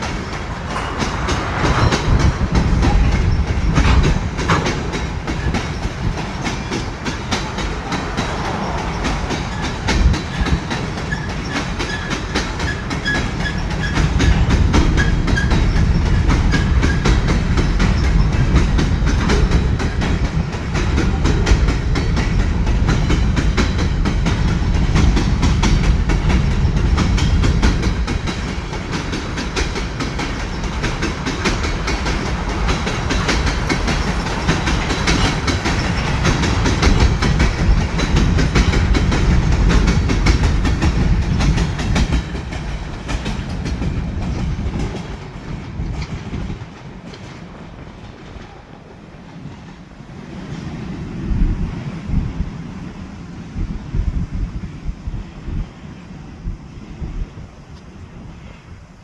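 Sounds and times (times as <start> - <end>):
train wheels clattering: 0.0 - 51.9.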